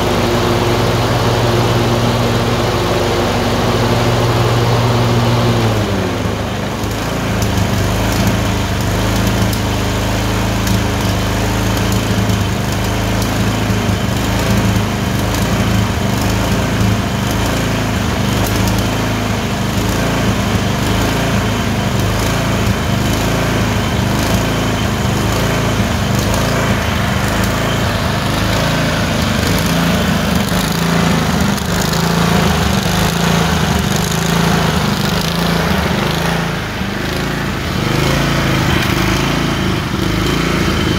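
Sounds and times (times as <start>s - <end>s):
small engine surging unevenly: 0.0s - 40.9s.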